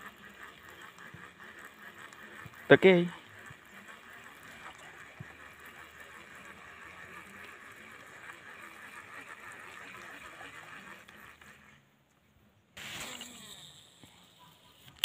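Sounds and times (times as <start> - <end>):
small ticks: 0.0 - 12.2, 13.2 - 15.0.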